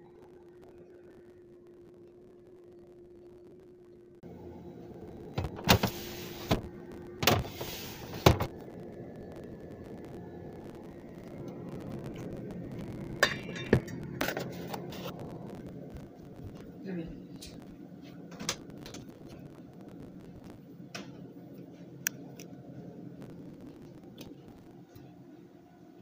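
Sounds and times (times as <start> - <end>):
refrigerator hum: 0.0 - 26.0.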